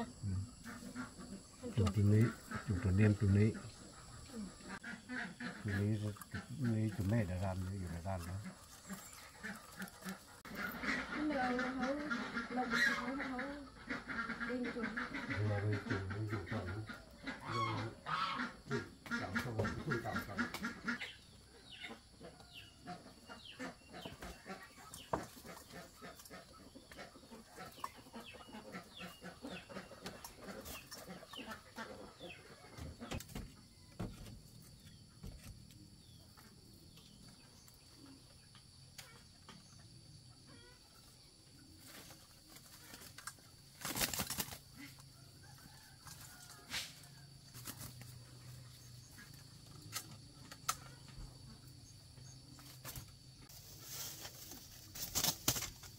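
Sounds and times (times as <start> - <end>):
birds chirping: 0.0 - 46.4, 47.2 - 55.9
chickens clucking: 0.0 - 55.9.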